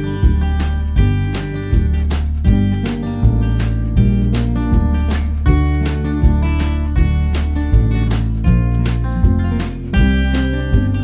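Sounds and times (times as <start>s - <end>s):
strummed acoustic guitar: 0.0s - 11.0s
sustained bass notes: 0.0s - 11.0s.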